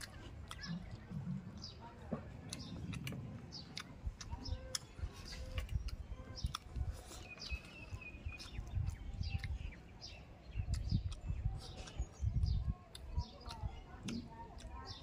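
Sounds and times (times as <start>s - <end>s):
birds chirping: 0.0s - 15.0s
chewing with lip-smacking: 0.0s - 15.0s.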